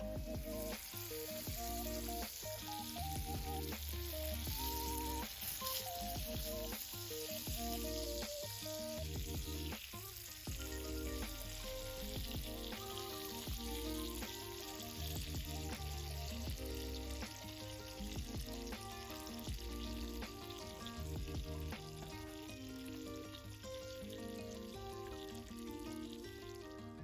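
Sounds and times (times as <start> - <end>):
background music with melody: 0.0 - 27.0
food sizzling in a pan: 0.0 - 27.0.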